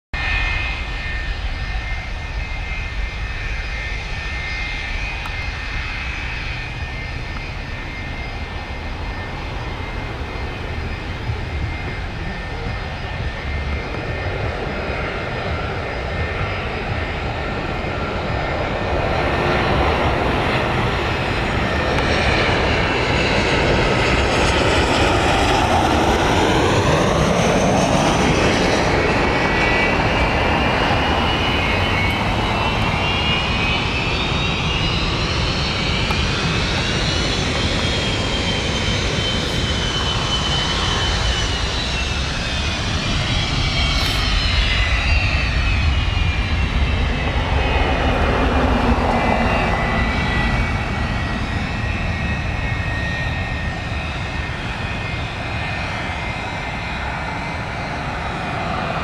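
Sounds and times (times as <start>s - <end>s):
jet engine whine and rumble: 0.1s - 59.0s.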